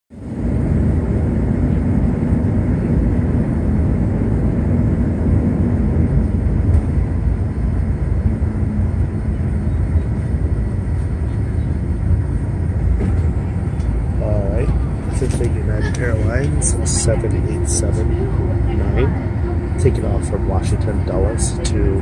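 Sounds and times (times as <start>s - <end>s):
airliner cabin rumble: 0.1s - 22.0s
faint constant hum: 0.3s - 22.0s.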